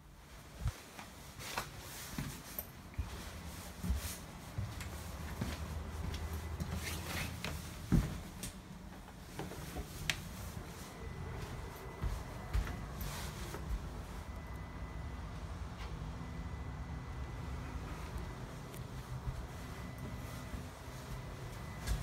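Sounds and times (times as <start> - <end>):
low steady hum: 2.6 - 22.0.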